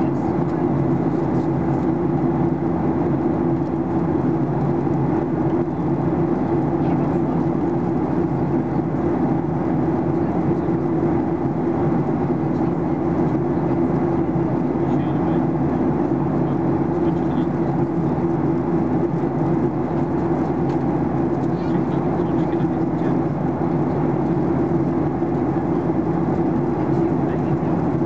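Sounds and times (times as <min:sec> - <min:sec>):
jet engines humming: 0:00.0 - 0:28.0.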